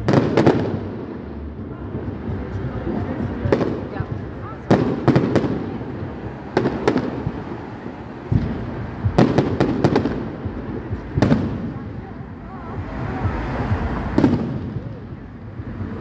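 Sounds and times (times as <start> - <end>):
fireworks bangs and cracks: 0.0 - 16.0
rumbling echo: 0.0 - 16.0.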